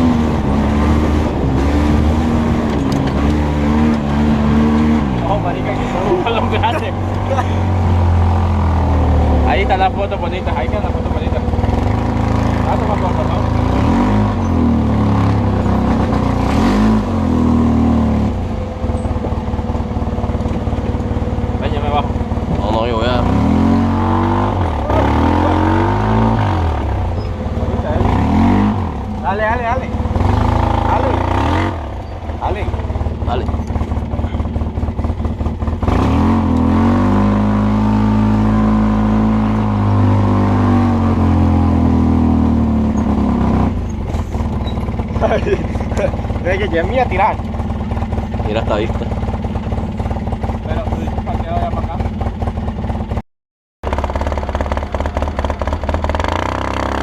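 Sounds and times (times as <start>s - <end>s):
off-road engine revving: 0.0s - 53.2s, 53.8s - 57.0s.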